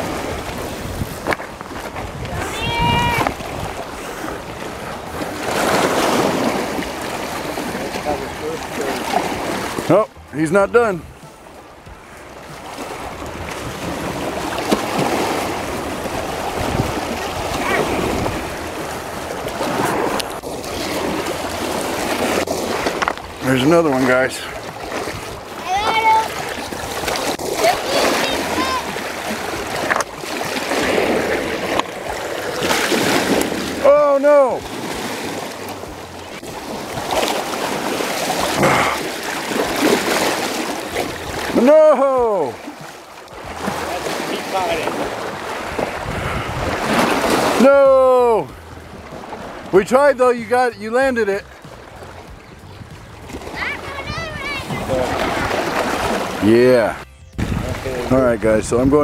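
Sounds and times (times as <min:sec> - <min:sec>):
river water lapping over rocks: 0:00.0 - 0:58.6.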